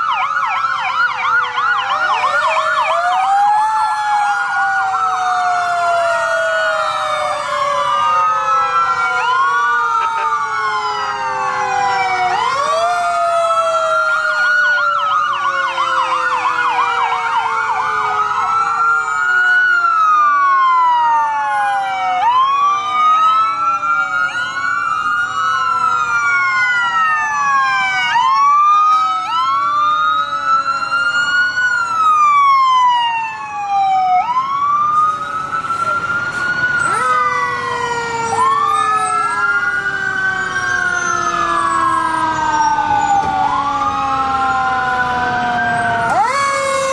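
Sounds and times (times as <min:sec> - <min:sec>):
emergency sirens wailing: 0:00.0 - 0:46.9.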